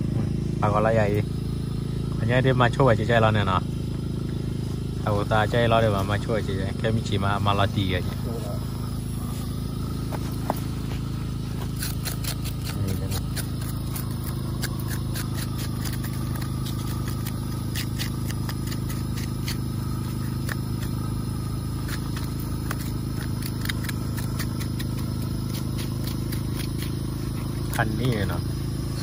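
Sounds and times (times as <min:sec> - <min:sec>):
low motor drone: 0:00.0 - 0:29.0.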